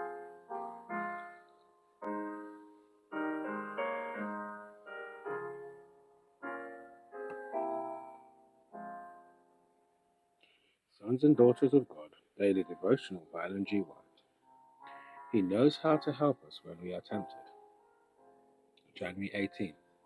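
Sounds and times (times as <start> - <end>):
solo piano chords: 0.0 - 10.3, 11.0 - 20.0.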